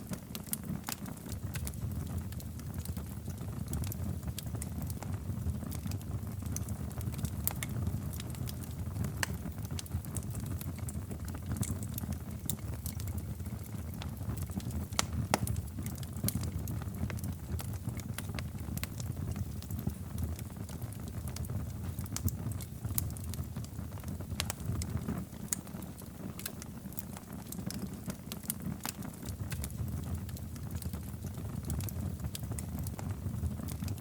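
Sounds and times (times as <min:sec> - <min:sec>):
fireplace fire crackling: 0:00.0 - 0:34.0.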